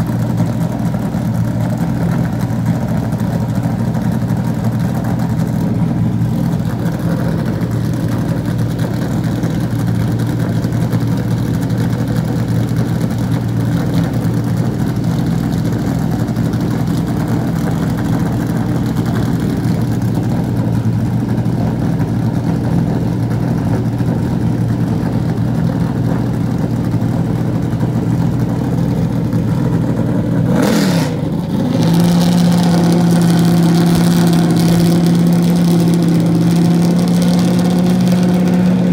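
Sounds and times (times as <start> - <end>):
race car engine fast idle: 0.0 - 38.9.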